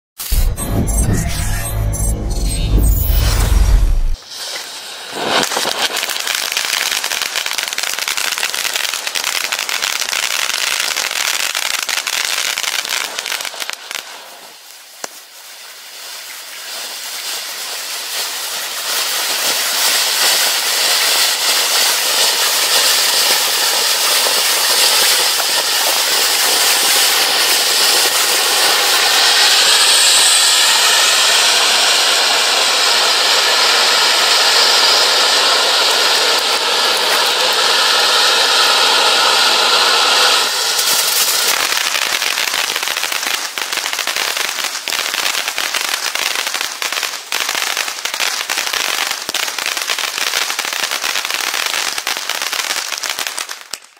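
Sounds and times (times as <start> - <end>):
firework fountain hissing sparks: 3.0 - 53.9.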